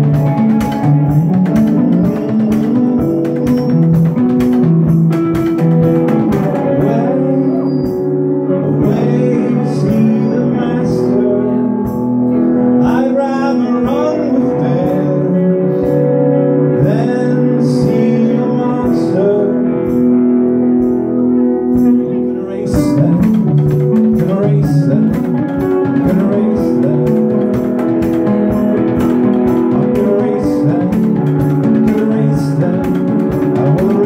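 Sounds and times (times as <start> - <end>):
man singing: 0.0 - 4.2, 6.0 - 20.2, 21.3 - 34.0
drums: 0.0 - 34.0
live rock band playing: 0.0 - 34.0.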